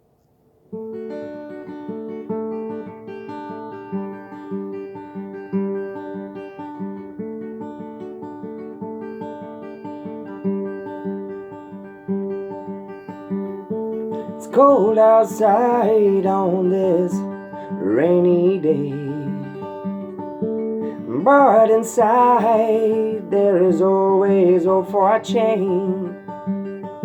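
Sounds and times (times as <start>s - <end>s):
acoustic guitar picking: 0.6s - 27.0s.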